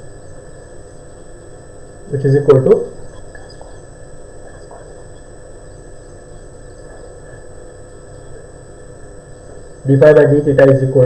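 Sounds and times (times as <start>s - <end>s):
faint high steady tone: 0.0s - 11.0s
room hum and hiss: 0.0s - 11.0s.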